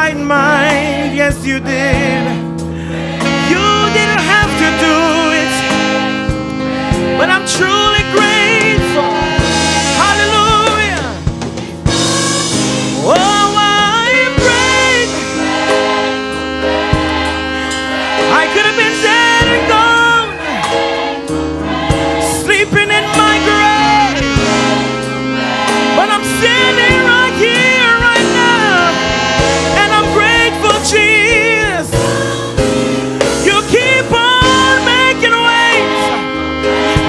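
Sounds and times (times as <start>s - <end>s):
sustained instrumental backing: 0.0s - 37.0s
voices singing long notes: 0.4s - 11.2s, 11.9s - 37.0s.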